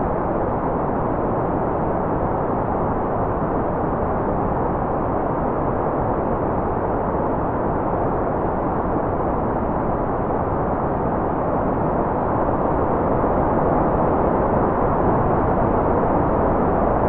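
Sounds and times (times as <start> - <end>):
muffled white noise hiss: 0.0 - 17.0.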